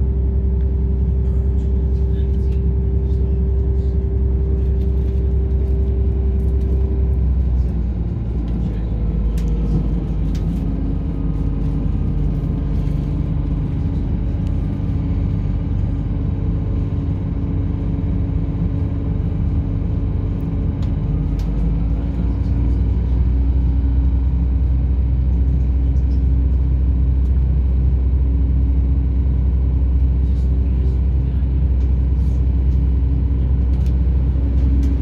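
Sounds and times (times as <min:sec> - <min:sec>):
diesel engine running: 0:00.0 - 0:35.0
train rumbling in motion: 0:00.0 - 0:35.0.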